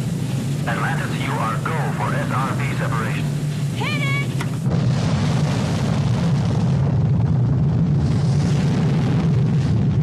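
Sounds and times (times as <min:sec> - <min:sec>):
rocket engines roaring: 0:00.0 - 0:10.0.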